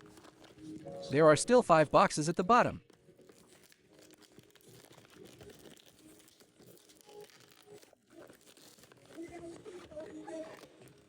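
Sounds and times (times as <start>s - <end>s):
foil packs crinkling and tearing: 0.0s - 1.0s, 2.8s - 11.0s.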